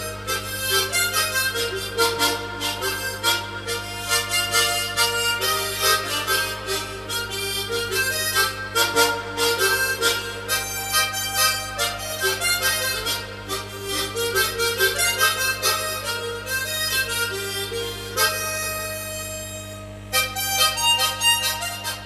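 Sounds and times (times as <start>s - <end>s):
solo harmonica melody: 0.0s - 22.0s.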